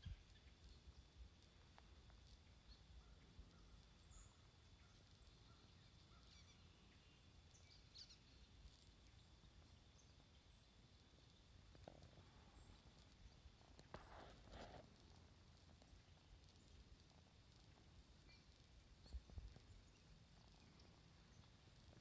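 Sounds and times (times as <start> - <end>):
distant bird chirps: 0.0 - 14.8, 15.6 - 22.0.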